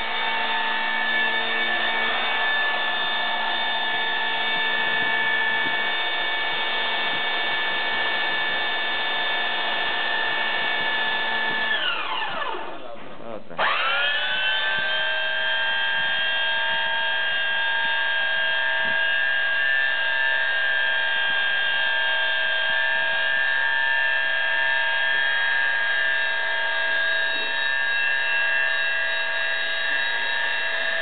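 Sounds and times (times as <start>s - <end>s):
circular saw whine: 0.0s - 31.0s.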